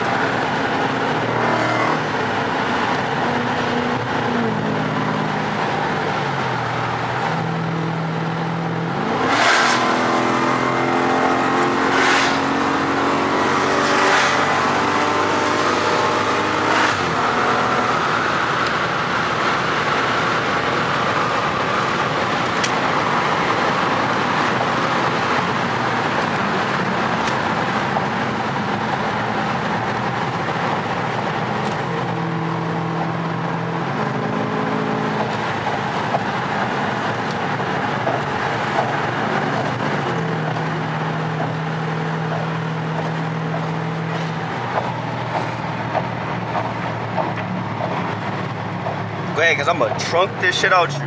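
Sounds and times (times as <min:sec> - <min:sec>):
car engines running: 0:00.0 - 0:51.0.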